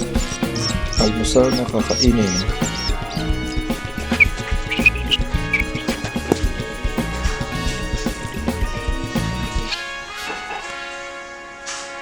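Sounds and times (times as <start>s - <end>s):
background music with drums: 0.0s - 10.8s.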